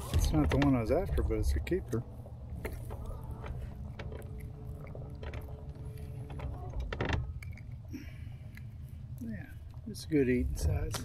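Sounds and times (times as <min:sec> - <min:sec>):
clicks and rattles of fish unhooking: 0:00.0 - 0:10.0
steady low rumble: 0:00.0 - 0:11.0.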